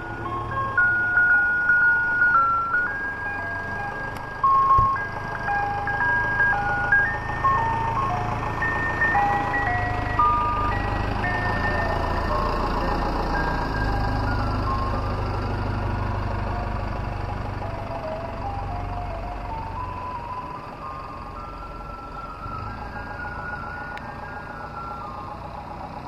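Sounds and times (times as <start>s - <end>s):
ice cream truck jingle: 0.0s - 26.0s
truck engine rumble: 0.0s - 26.0s.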